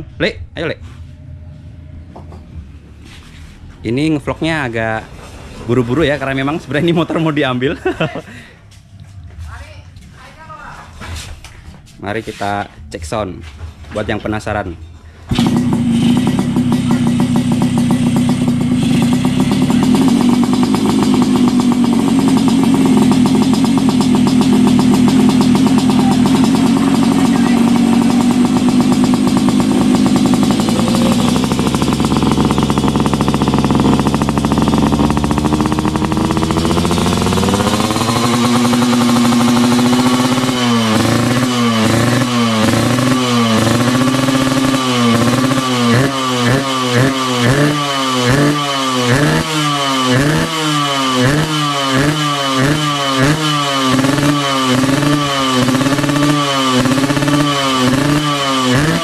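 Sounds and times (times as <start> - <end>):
motorcycle engine revving: 0.8 - 9.3, 15.2 - 59.0.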